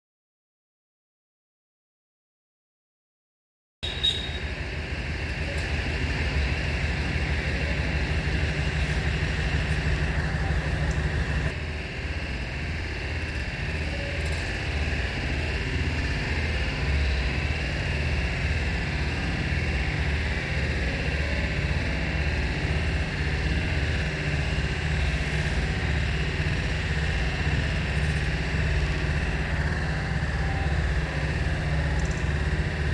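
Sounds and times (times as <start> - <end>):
engine throbbing: 3.8 - 32.9.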